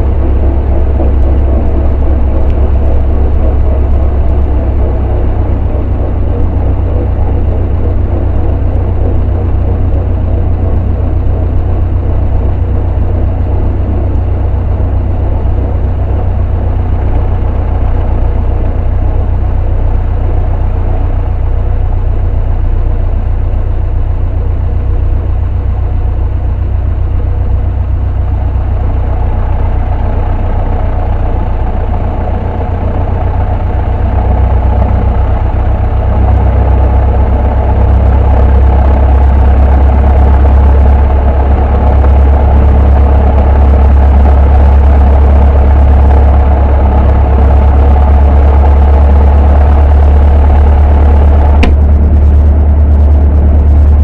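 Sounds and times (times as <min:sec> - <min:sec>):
airplane engine and propeller: 0:00.0 - 0:54.0.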